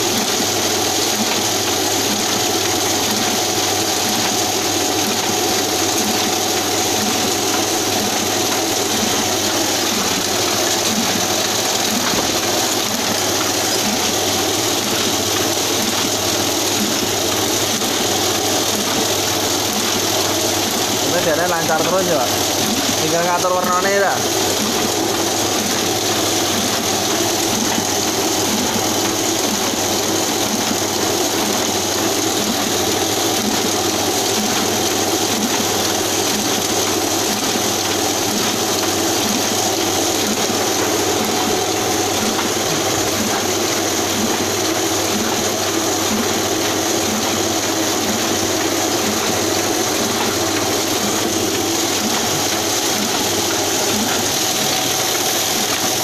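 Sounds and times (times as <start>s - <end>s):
printing press clattering: 0.0s - 56.0s.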